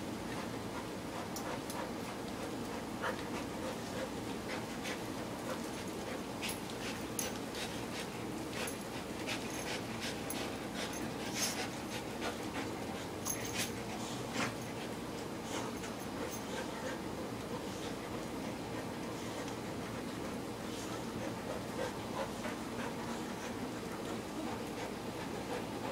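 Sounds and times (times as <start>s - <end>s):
dogs breathing: 0.1s - 25.9s.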